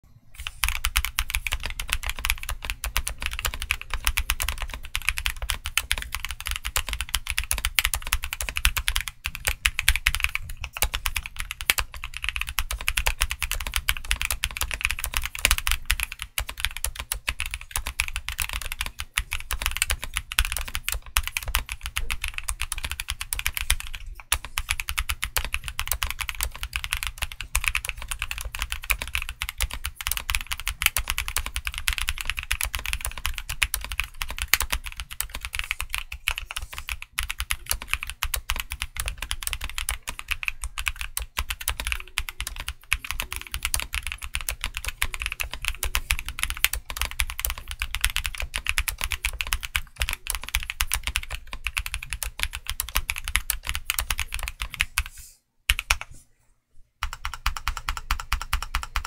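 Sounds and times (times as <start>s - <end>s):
mechanical keyboard typing: 0.4s - 55.1s, 55.7s - 56.1s, 57.0s - 59.0s.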